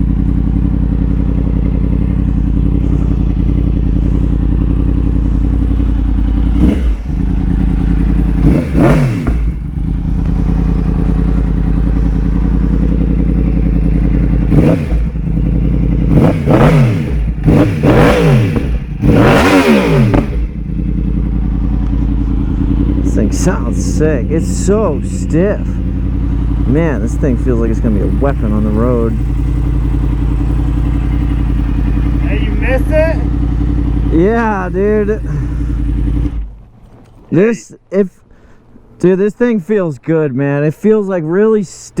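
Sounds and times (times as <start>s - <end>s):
motorcycle engine idling and revving: 0.0s - 37.6s, 38.2s - 42.0s.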